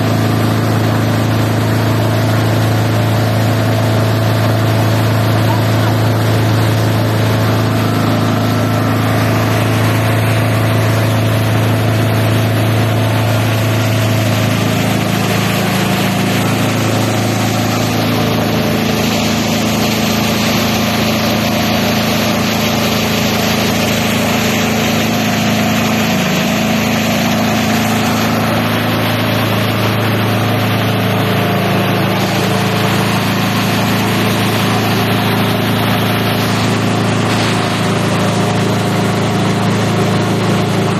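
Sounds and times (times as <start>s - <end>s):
shredder machine humming and whirring: 0.0s - 40.9s.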